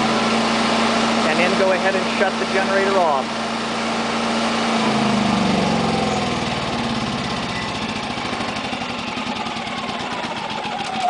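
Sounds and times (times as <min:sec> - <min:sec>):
generator engine running down: 0:00.0 - 0:11.0.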